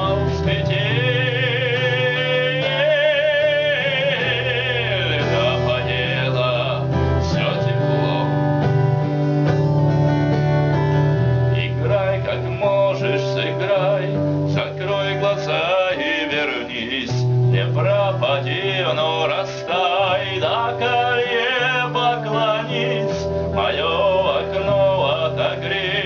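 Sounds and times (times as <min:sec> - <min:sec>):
man singing with vibrato: 0:00.0 - 0:08.7, 0:11.4 - 0:26.0
guitar and bass: 0:00.0 - 0:26.0.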